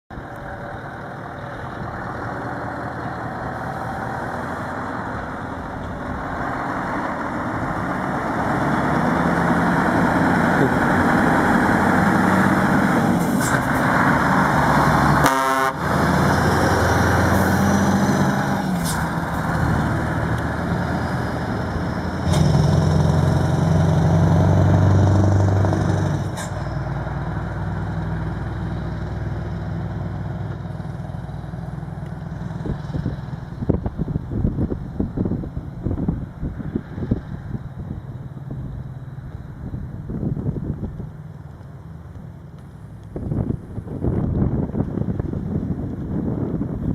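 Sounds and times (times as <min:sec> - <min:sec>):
truck engine accelerating: 0:00.1 - 0:46.9.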